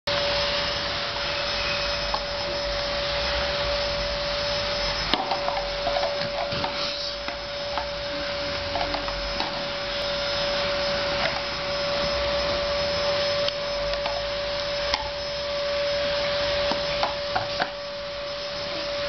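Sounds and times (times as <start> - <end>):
mid-pitched hum: 0.1 - 19.0
steady rushing hiss: 0.1 - 19.0.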